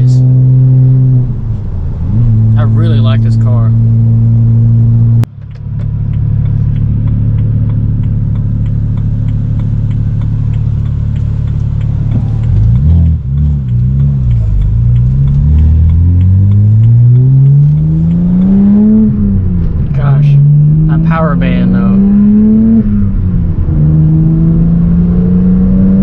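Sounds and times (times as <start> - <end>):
car engine from inside cabin: 0.0 - 26.0.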